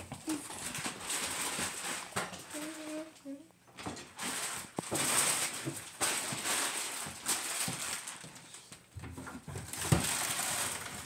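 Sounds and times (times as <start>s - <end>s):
crinkly blanket rustling: 0.0s - 11.0s.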